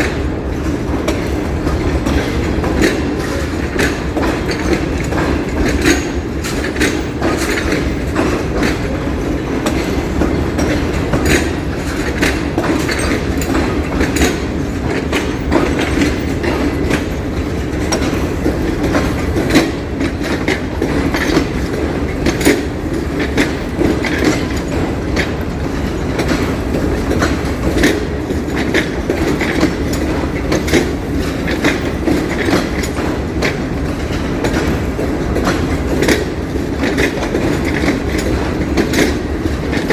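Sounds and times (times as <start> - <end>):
train rumble: 0.0 - 39.9
train wheels clacking over rail joints: 0.0 - 39.9.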